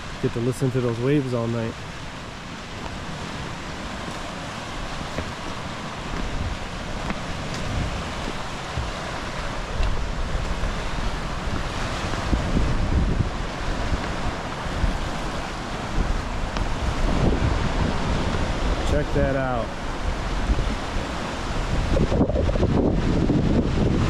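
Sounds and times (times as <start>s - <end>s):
waves breaking on shore: 0.0s - 24.0s
wind buffeting microphone: 0.0s - 24.0s.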